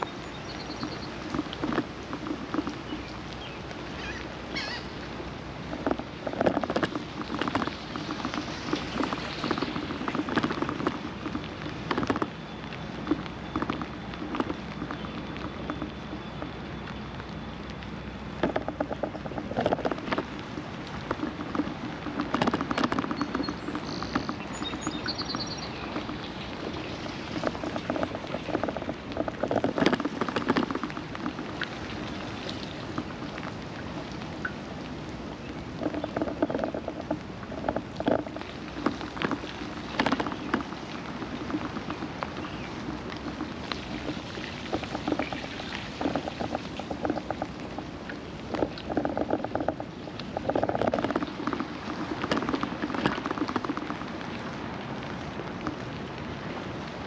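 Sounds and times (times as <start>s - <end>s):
rain falling: 0.0s - 57.0s
patter of drops: 5.7s - 34.6s, 35.4s - 54.2s.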